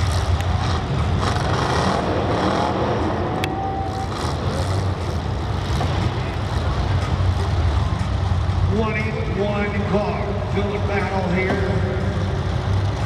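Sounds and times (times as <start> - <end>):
car engines rumbling and revving: 0.0 - 13.0.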